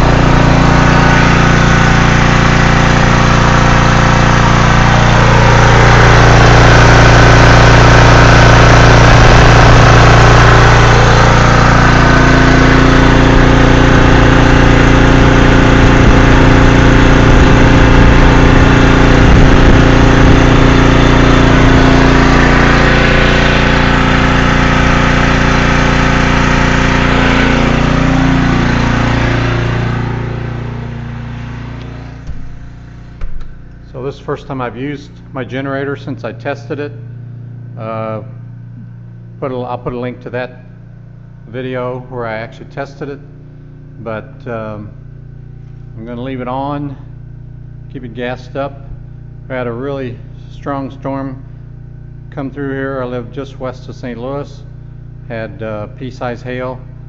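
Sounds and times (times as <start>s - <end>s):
generator engine running: 0.0s - 57.0s.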